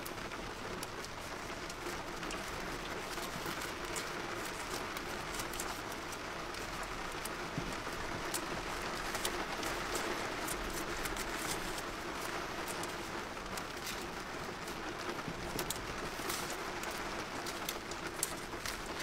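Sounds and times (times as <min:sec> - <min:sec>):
raindrops ticking on surface: 0:00.0 - 0:19.0
steady rain hiss: 0:00.0 - 0:19.0.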